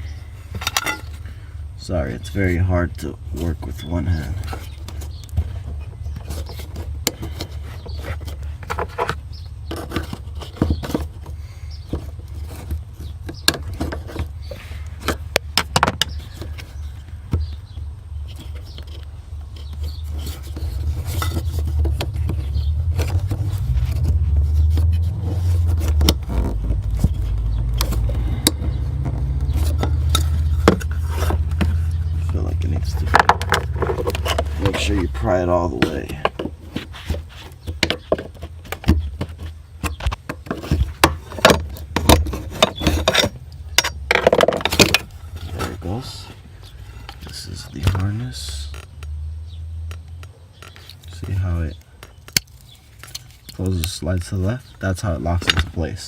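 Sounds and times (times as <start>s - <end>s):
low steady rumble: 0.0s - 56.0s.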